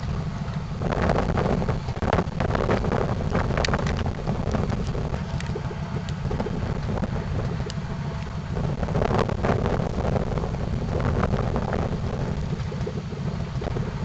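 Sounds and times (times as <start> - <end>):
car engine running: 0.0 - 14.0
exhaust leak puffing and crackle: 0.0 - 14.0
wind buffeting microphone: 0.0 - 14.0.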